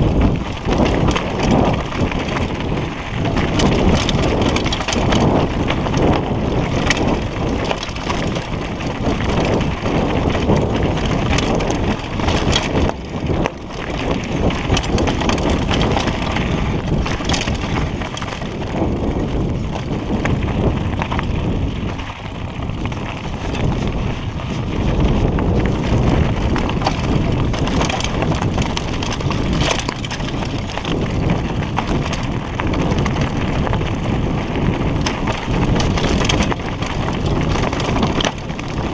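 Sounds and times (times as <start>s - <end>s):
bike knocking and clattering: 0.0s - 38.9s
tyres crunching over gravel: 0.0s - 38.9s.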